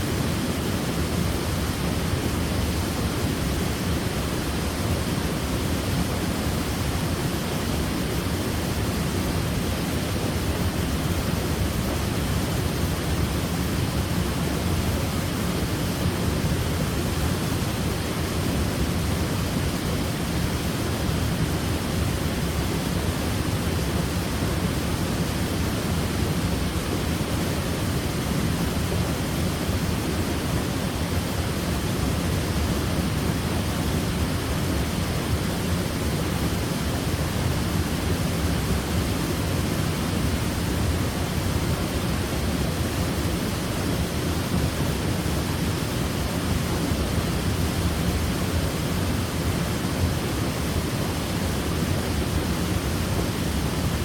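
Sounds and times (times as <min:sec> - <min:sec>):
waterfall rushing into a pool: 0:00.0 - 0:54.0.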